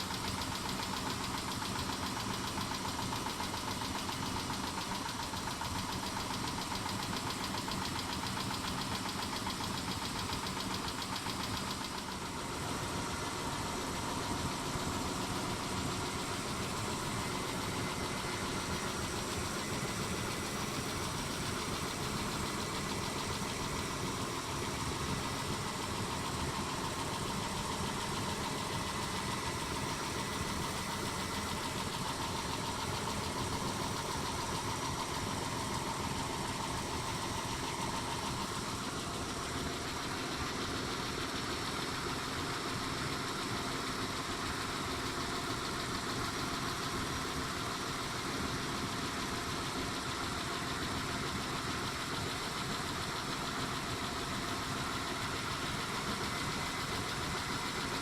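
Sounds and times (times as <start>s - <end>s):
car engine idling: 0.0s - 58.0s
rapid engine ticking: 0.0s - 58.0s.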